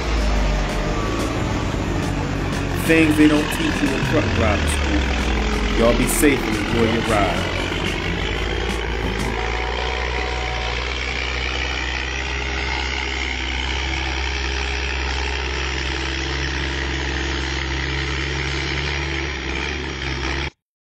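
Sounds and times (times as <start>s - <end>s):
truck diesel engine running: 0.0s - 20.6s.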